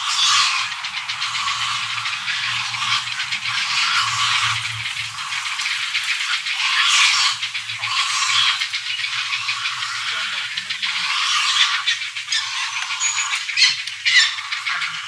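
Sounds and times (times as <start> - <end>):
heron chicks rattling calls: 0.0 - 15.0.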